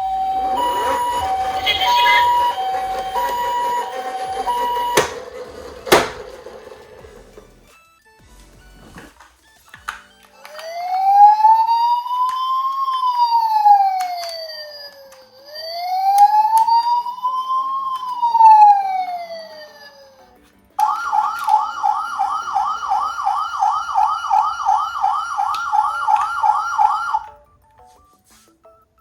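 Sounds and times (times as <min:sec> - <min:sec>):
toy electronic siren: 0:00.0 - 0:06.2, 0:10.4 - 0:27.4.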